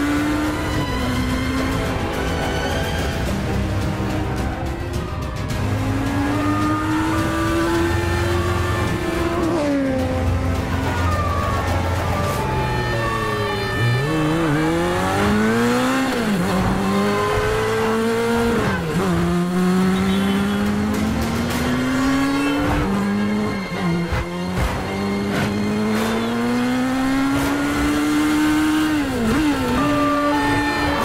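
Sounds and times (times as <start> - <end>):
motorcycle engine accelerating: 0.0 - 2.8, 5.4 - 11.9, 13.3 - 31.0.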